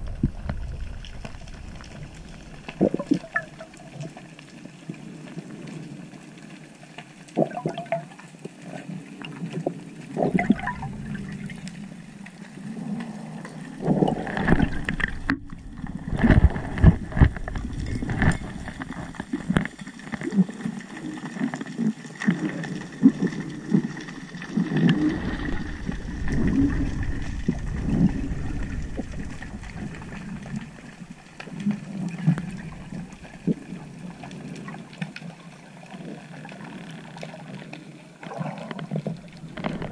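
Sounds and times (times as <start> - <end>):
low underwater rumbles: 0.0 - 5.7, 9.6 - 35.4, 36.0 - 39.9
water swishing and gurgling: 0.0 - 39.9.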